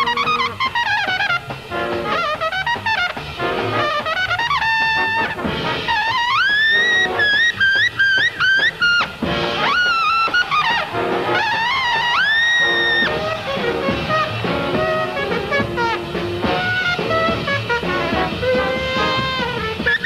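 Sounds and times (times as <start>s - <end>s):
big band jazz: 0.0s - 20.0s
lead trumpet bending notes: 0.0s - 20.0s.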